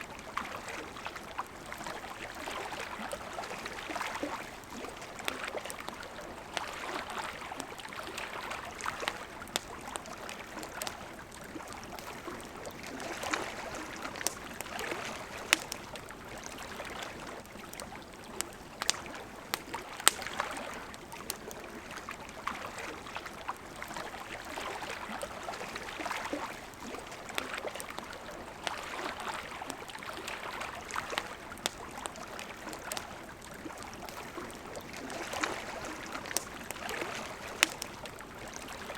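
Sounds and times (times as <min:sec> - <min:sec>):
campfire crackling and popping: 0:00.0 - 0:38.9
river water running: 0:00.0 - 0:38.9.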